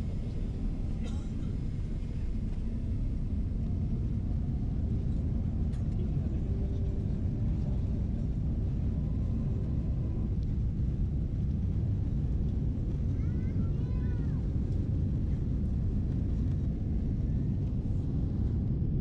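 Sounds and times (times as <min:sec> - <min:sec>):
jet cabin low rumble: 0:00.0 - 0:19.0.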